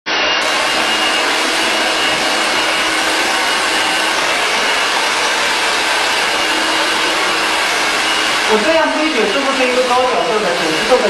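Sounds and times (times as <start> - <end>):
hair dryer blowing: 0.1 - 11.0.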